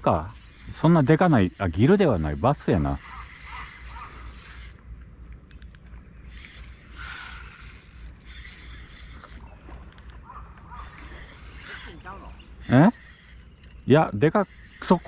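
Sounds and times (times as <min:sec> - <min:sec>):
fishing reel whirring: 0:00.0 - 0:15.0
sharp ticks of fishing reel: 0:00.0 - 0:15.0.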